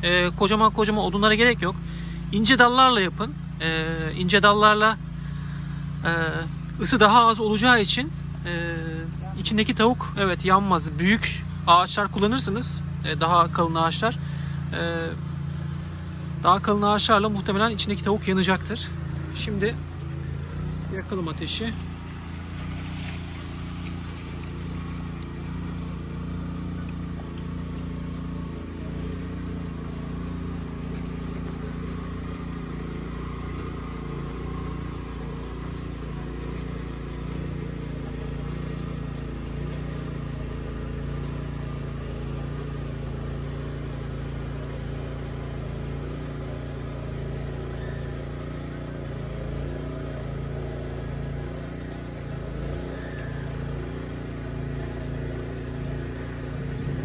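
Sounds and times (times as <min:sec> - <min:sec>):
low motor hum: 0:00.0 - 0:57.0.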